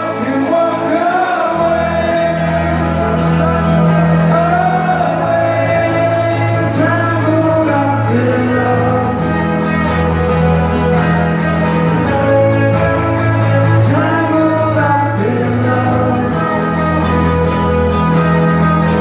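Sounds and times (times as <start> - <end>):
person singing: 0.0 - 19.0
strummed acoustic guitars: 0.0 - 19.0.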